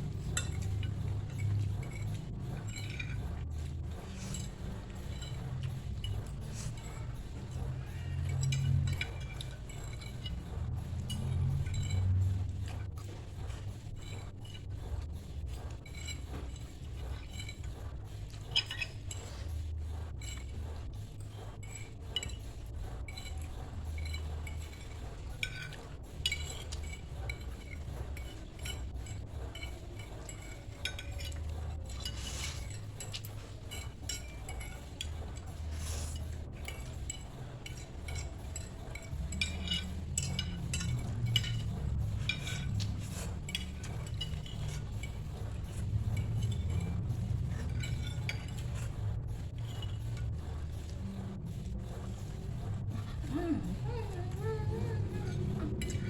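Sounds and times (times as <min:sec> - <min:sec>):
cutlery clinking against a bowl: 0:00.0 - 0:56.0.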